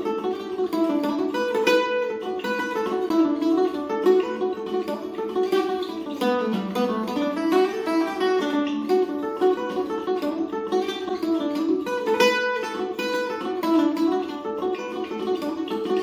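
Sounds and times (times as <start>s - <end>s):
octave mandolin melody: 0.0s - 16.0s.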